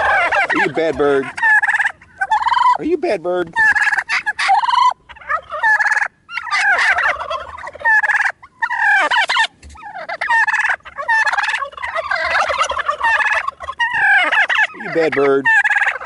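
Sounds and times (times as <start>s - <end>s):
turkeys gobbling: 0.0s - 16.0s.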